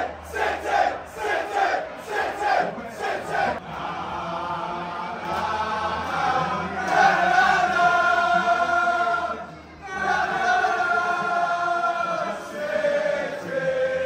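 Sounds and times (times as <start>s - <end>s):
crowd singing a football chant: 0.0s - 14.0s.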